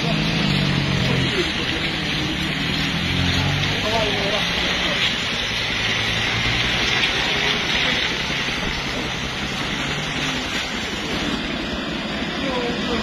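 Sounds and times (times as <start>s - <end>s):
cars moving slowly past: 0.0s - 13.0s
rain hiss on wet road: 0.0s - 13.0s.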